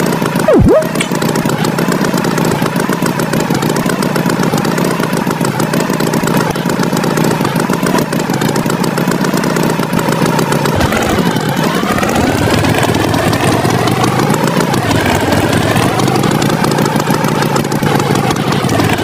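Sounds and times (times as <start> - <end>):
tractor engine chugging: 0.0 - 19.0.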